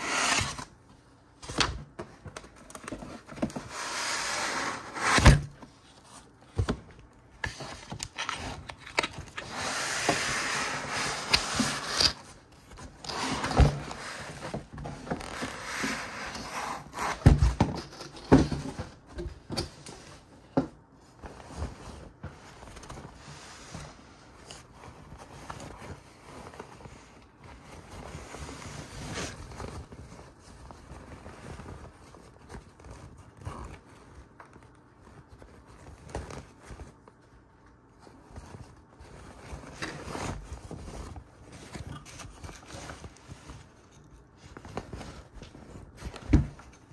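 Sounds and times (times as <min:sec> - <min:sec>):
packaging rustling and scraping: 0:00.0 - 0:20.4, 0:21.0 - 0:46.9.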